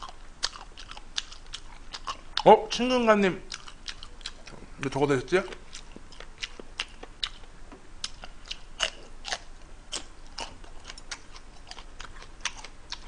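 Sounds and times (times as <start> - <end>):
person chewing food: 0.0 - 2.5, 3.5 - 13.0.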